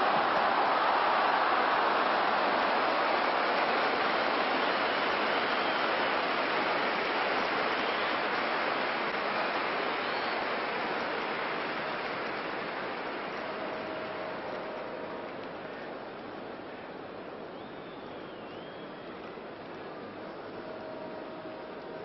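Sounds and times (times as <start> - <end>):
stadium crowd roar: 0.0 - 22.0.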